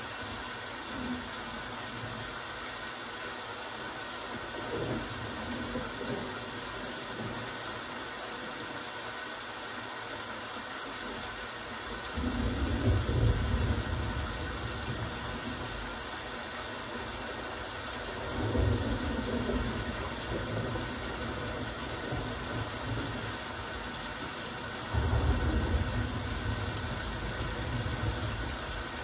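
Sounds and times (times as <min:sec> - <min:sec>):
rain hiss: 0:00.0 - 0:29.0.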